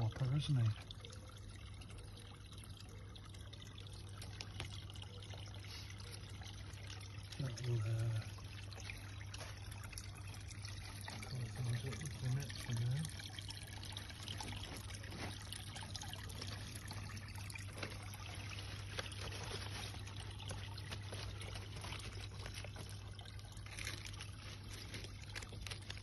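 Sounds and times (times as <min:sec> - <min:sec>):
water trickling into a pond: 0:00.0 - 0:26.0.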